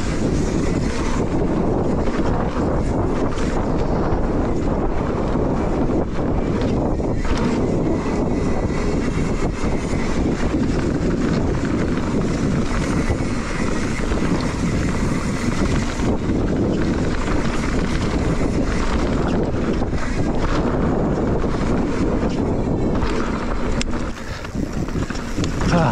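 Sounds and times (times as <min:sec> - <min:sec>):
bike tyres on dirt: 0:00.0 - 0:25.9
wind on microphone: 0:00.0 - 0:25.9.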